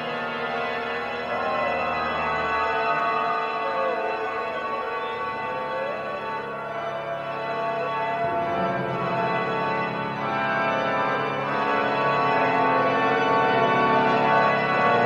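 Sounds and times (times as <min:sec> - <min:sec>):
sustained organ chords: 0:00.0 - 0:15.0.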